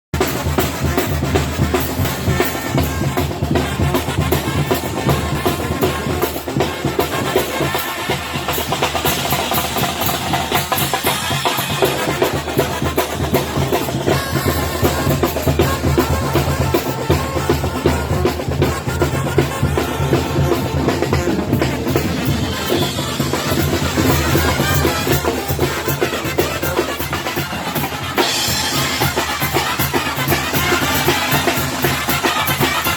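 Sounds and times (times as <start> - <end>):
fast drum strokes: 0.2 - 32.9
wind band playing live: 0.2 - 32.9.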